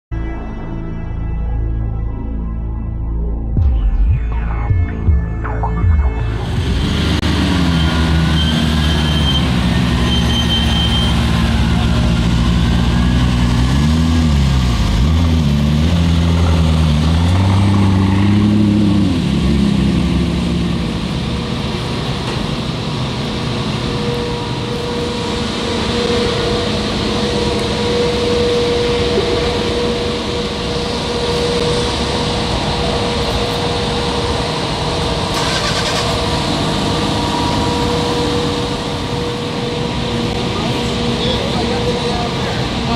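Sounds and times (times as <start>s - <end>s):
car engine idling and revving: 3.4s - 42.9s.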